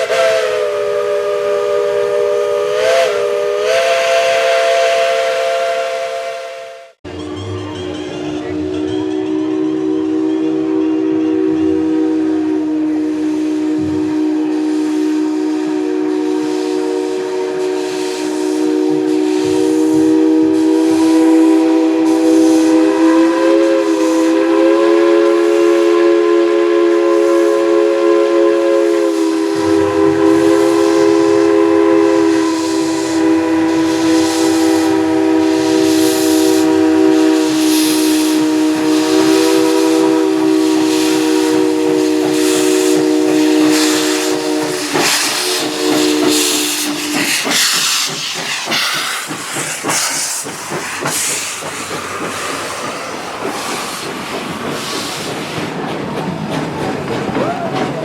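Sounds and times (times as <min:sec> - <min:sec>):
steam locomotive chime whistle: 0:00.0 - 0:49.2
locomotive exhaust chuffs: 0:08.5 - 0:58.0
steam hissing: 0:09.5 - 0:58.0.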